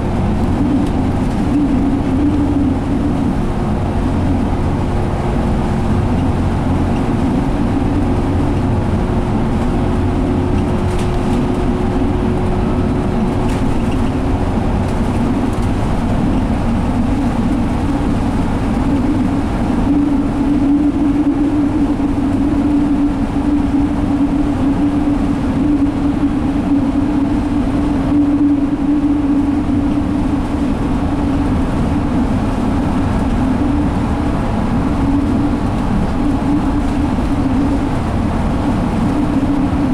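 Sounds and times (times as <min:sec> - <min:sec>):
bus diesel engine rumble: 0:00.0 - 0:39.9
road noise: 0:00.0 - 0:39.9.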